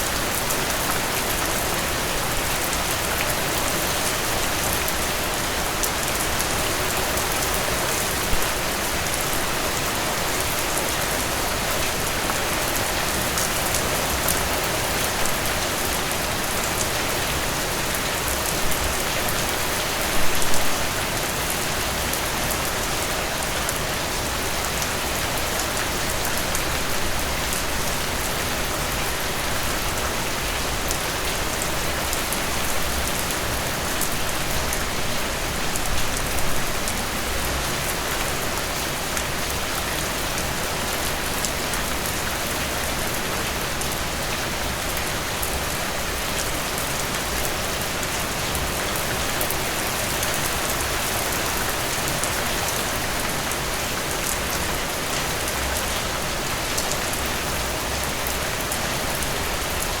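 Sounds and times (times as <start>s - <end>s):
steady rain on a surface: 0.0s - 60.0s.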